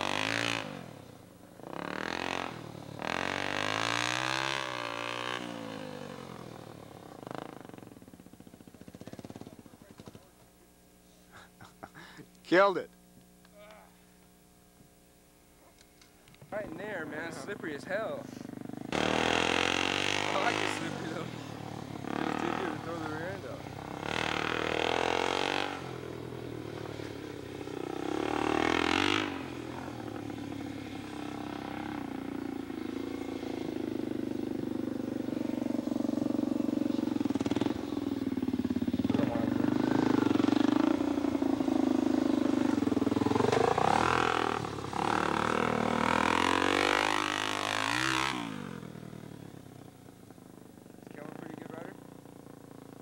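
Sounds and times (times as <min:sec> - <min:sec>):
dirt bike engine revving: 0:00.0 - 0:10.3, 0:16.5 - 0:53.0.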